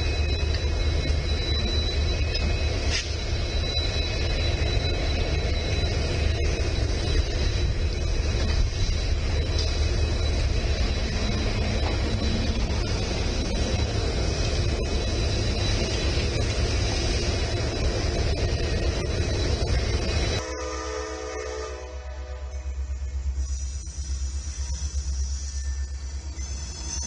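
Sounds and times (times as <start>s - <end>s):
freight train rumbling past: 0.0s - 27.0s
high whine: 0.0s - 27.0s.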